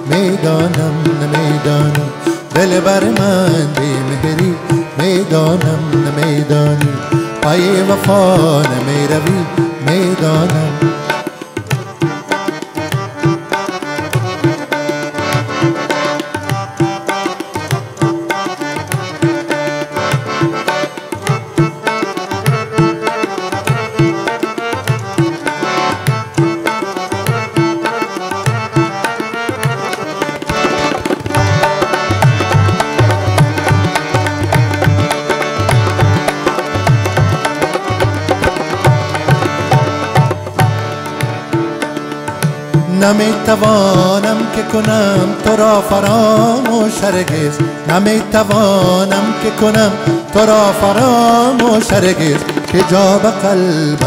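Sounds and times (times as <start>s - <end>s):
harmonium melody and chords: 0.0s - 54.0s
tabla drumming: 0.0s - 54.0s.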